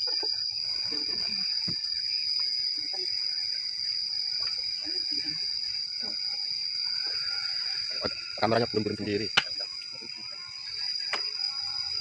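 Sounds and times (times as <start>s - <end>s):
insect buzzing: 0.0s - 12.0s.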